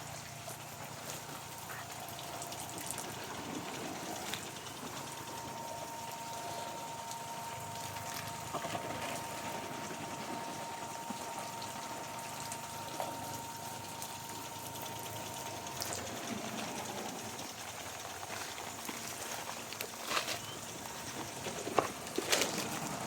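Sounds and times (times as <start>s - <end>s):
sprinklers spraying water: 0.0s - 23.0s.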